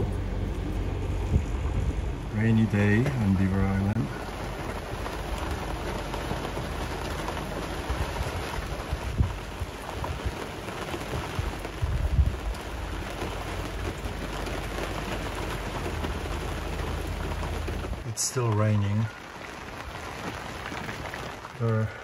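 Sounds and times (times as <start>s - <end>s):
steady rain patter: 0.0s - 22.0s.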